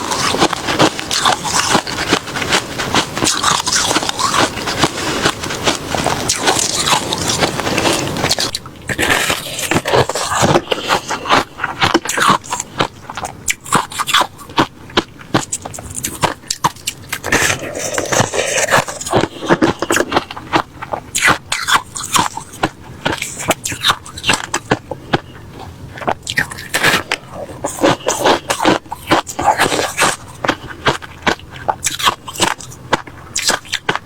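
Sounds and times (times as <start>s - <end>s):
ice being chewed: 0.0s - 34.0s.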